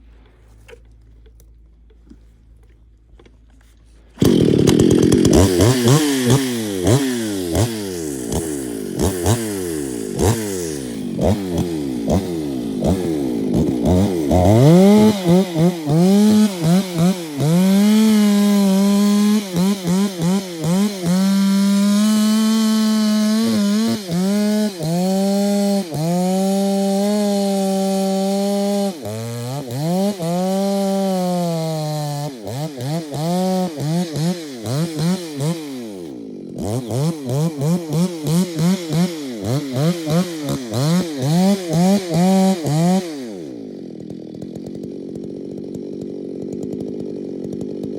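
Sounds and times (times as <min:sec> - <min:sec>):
chainsaw revving: 0:04.2 - 0:47.9.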